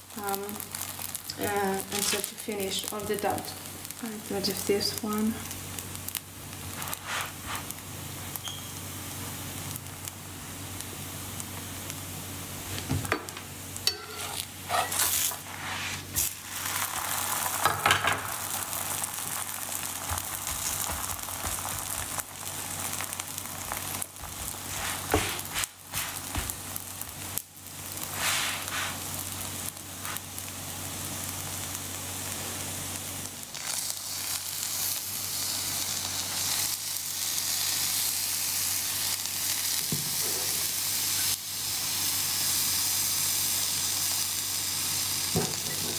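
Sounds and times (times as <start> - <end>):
dough sizzling on a griddle: 0.0 - 45.9.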